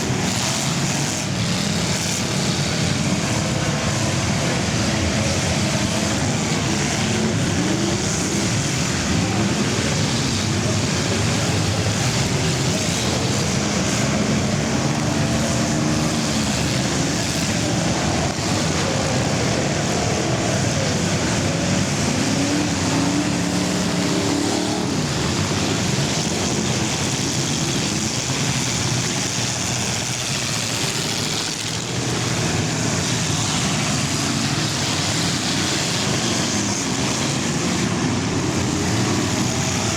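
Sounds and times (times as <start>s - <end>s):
car engines racing: 0.0s - 39.9s.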